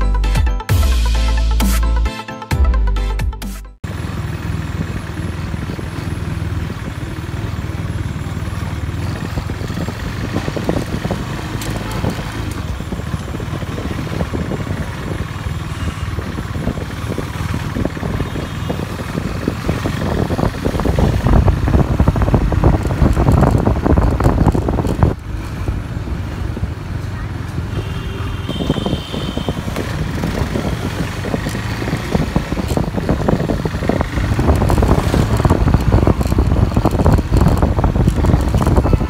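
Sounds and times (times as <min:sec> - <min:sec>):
motorcycle engine running: 0:03.8 - 0:39.0
wind buffeting microphone: 0:04.5 - 0:39.0.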